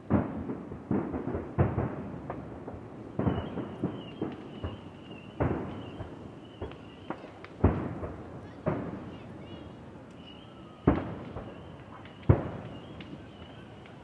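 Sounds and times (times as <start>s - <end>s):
distant firework shells bursting: 0.0s - 9.1s, 10.2s - 14.0s.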